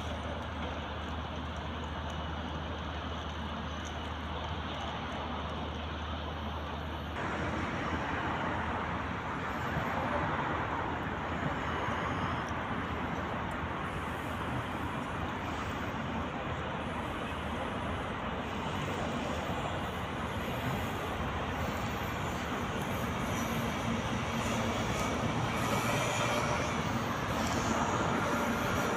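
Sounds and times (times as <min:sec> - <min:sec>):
road traffic noise: 0:00.0 - 0:28.9.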